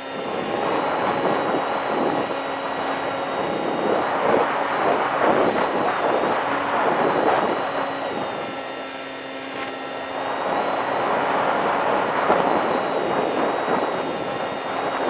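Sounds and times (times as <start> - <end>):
electric motor and propeller whine: 0.0 - 15.0
wind rushing over camera: 0.0 - 15.0.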